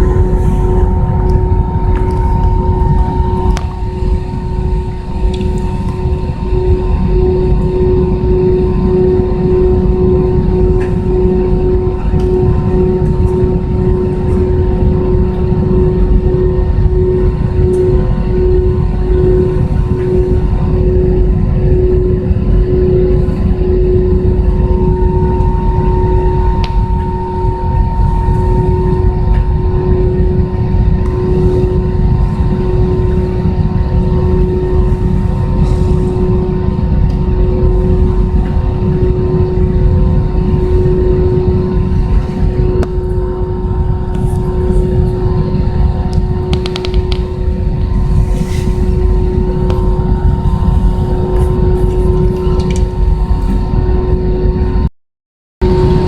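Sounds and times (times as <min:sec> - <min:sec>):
airplane cabin rumble: 0:00.0 - 0:54.8, 0:55.6 - 0:56.0
constant hum: 0:00.0 - 0:54.8, 0:55.6 - 0:56.0
jet engine whine: 0:00.0 - 0:54.9, 0:55.6 - 0:56.0.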